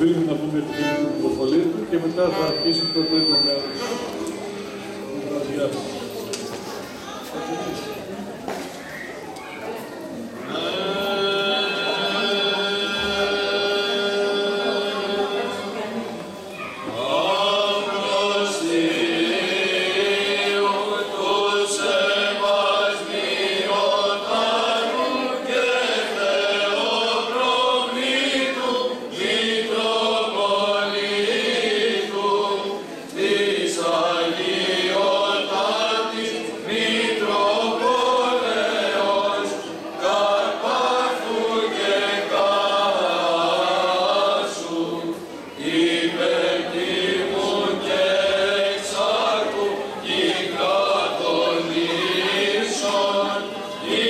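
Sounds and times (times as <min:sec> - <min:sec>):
group singing chant-like: 0:10.4 - 0:54.0.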